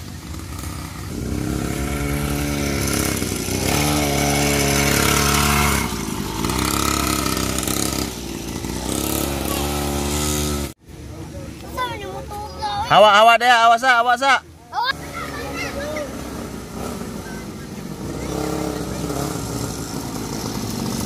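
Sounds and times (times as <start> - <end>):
small two-stroke engine revving: 0.0 - 10.8, 14.8 - 21.0.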